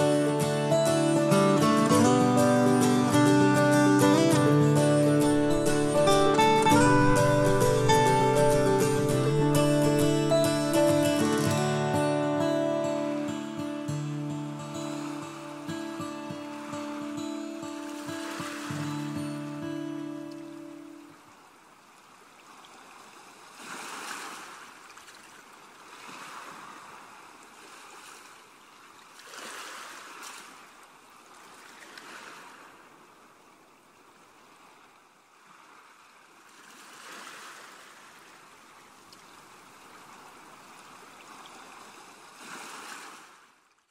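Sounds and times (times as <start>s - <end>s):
waves washing onto shore: 0.0s - 43.6s.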